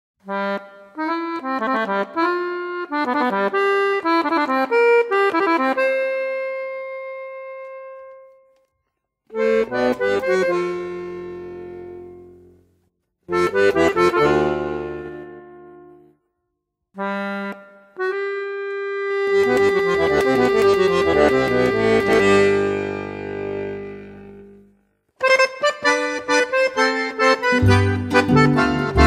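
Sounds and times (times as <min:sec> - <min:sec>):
accordion playing: 0:00.2 - 0:08.6, 0:09.3 - 0:12.6, 0:13.3 - 0:16.2, 0:17.0 - 0:29.0.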